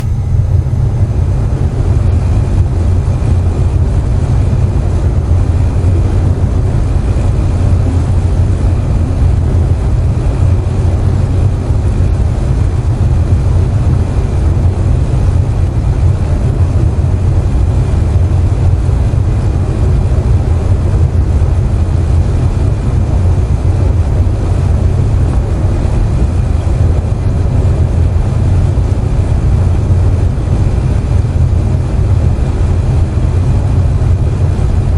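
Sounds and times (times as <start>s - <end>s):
air conditioner humming: 0.0s - 34.9s.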